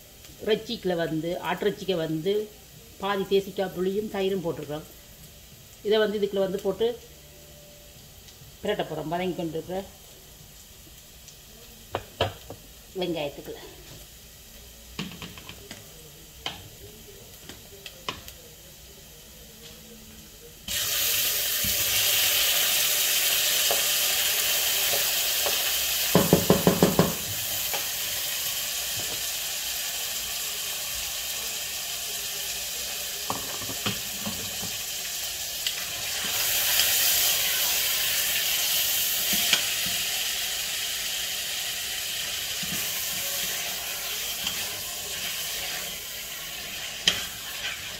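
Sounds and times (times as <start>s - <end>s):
meat sizzling in hot oil: 0.0s - 47.9s.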